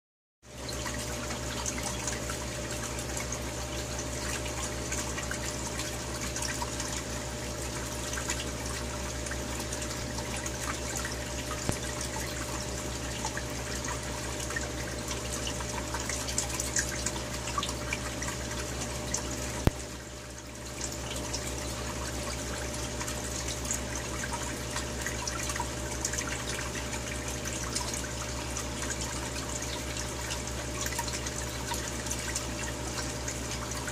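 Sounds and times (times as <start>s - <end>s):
aquarium water bubbling: 0.4s - 33.9s.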